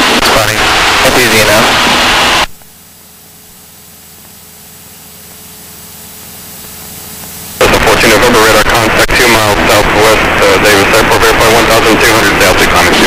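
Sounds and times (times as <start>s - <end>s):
aircraft engine and propeller: 0.0s - 13.0s.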